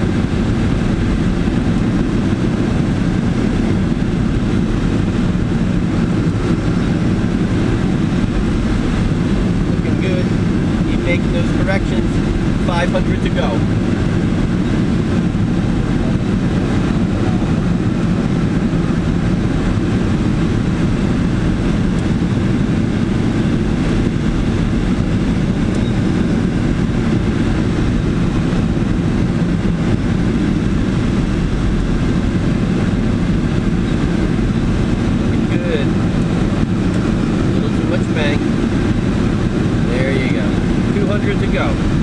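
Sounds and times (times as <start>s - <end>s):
airflow rushing inside cockpit: 0.0s - 42.0s.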